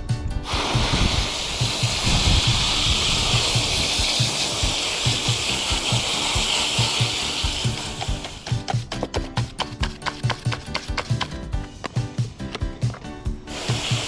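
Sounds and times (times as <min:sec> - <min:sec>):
background music with steady beat: 0:00.0 - 0:14.0
water spray hissing: 0:00.4 - 0:14.0.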